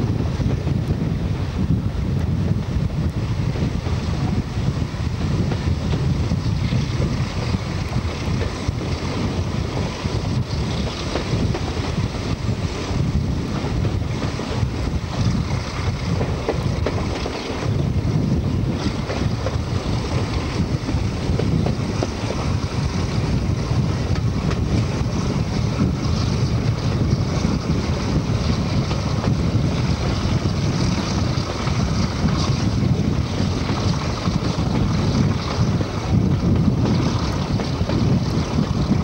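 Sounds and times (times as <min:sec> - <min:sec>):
train running rumble: 0:00.0 - 0:39.0
wind buffeting microphone: 0:00.0 - 0:39.0.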